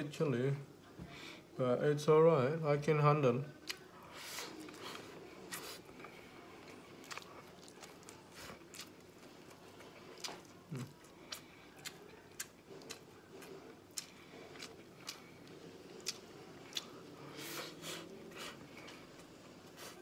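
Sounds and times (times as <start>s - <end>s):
person chewing food: 3.6s - 20.0s.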